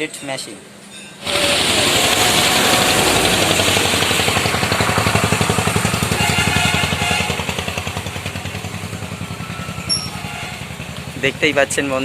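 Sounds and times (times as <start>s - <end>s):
small engine running: 1.2s - 12.0s.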